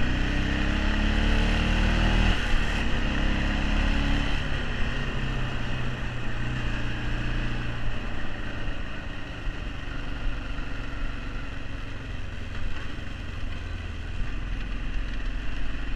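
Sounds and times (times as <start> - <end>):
atv engine running: 0.0 - 15.9
wind: 0.0 - 15.9.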